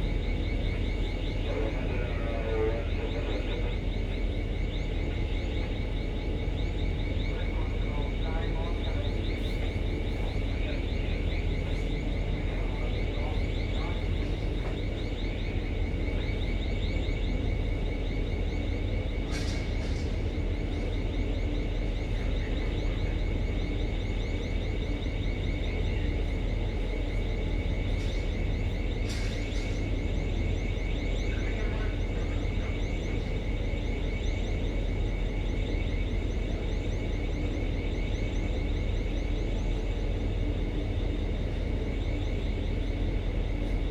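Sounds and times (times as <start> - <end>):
ship machinery rumble: 0.0 - 43.9.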